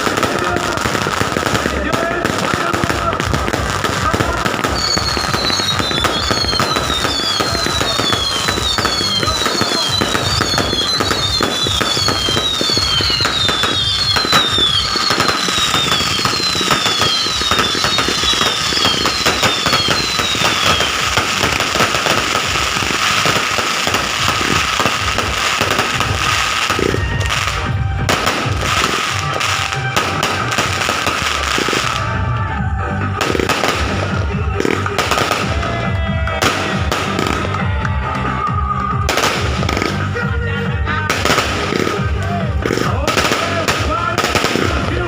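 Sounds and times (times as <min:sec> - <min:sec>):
falling whistles of fireworks: 0:00.0 - 0:40.3
fireworks popping and crackling: 0:00.0 - 0:45.0.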